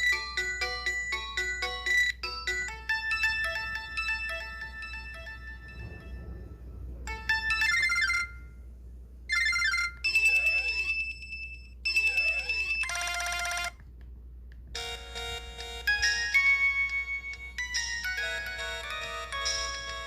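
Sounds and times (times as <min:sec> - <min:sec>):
electronic phone ringtones: 0:00.0 - 0:06.4, 0:07.1 - 0:08.6, 0:09.3 - 0:13.8, 0:14.8 - 0:20.0.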